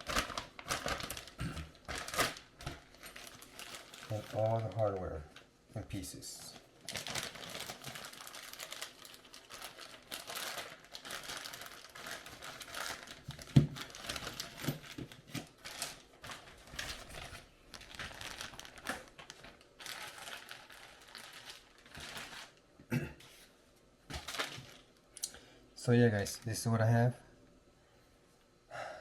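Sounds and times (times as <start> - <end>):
plastic bags crinkling: 0.0 - 22.6, 24.1 - 25.0.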